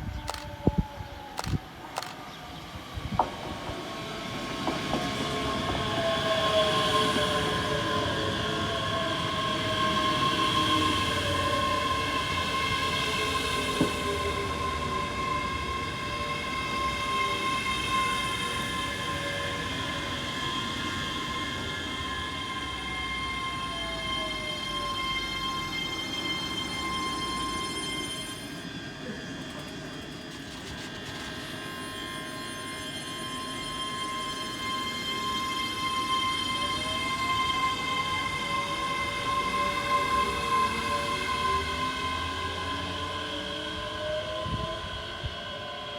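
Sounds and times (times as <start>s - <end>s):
train whine of held tones: 0.0s - 45.9s.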